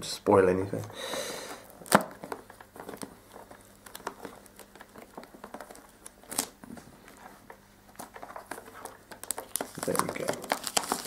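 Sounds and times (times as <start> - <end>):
cellophane wrap crinkling: 1.4 - 11.0.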